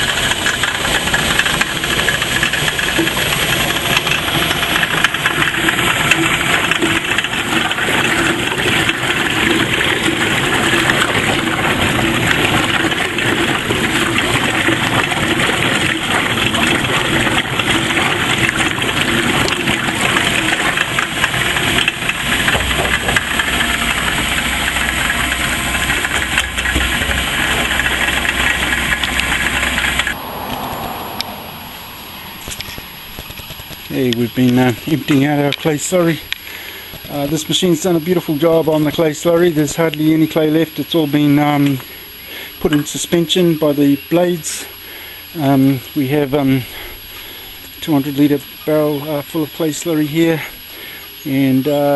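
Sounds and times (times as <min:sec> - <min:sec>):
slurry churning in drum: 0:00.0 - 0:51.3
deep hum: 0:00.0 - 0:51.6
car engine running: 0:00.0 - 0:51.9.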